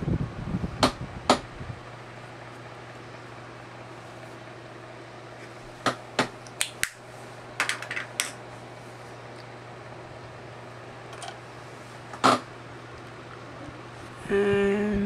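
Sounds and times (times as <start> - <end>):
room fan humming: 0.0 - 15.0.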